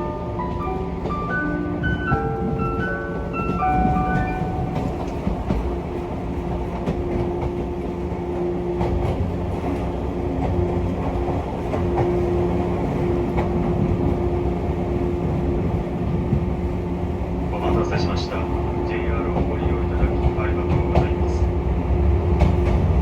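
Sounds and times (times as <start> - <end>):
train rumble and hum: 0.0 - 23.0.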